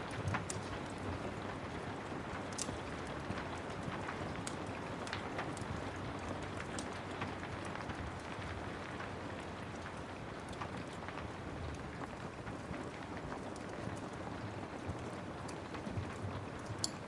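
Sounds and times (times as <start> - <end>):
steady rain: 0.0 - 17.0
wood fire crackling: 0.0 - 17.0.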